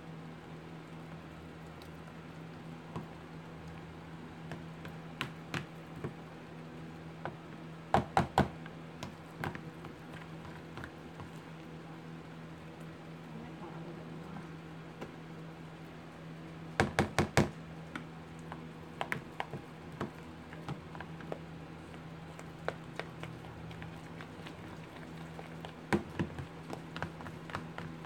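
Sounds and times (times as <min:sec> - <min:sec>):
fan humming: 0:00.0 - 0:28.0.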